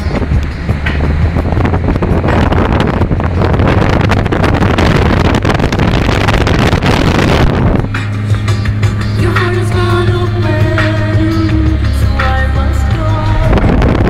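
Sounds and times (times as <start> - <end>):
car engine humming: 0.0 - 14.0
wind rushing over microphone: 0.0 - 14.0.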